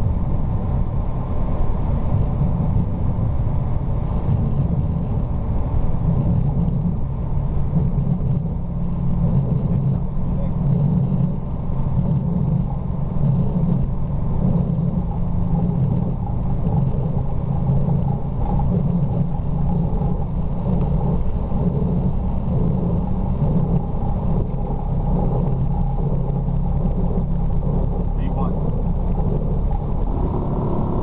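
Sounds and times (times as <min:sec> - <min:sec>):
aircraft engines and wheels rumbling: 0:00.0 - 0:31.0.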